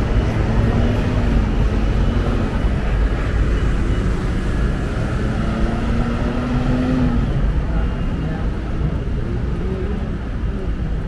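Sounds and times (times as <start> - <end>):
engine hum wavering: 0.0 - 11.0
traffic rumble: 0.0 - 11.0.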